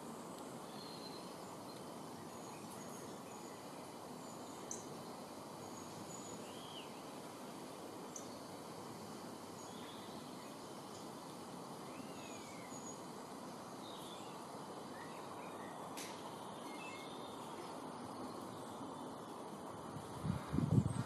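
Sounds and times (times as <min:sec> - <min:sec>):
faint small birds chirping: 0:00.0 - 0:21.0
outdoor background hiss: 0:00.0 - 0:21.0.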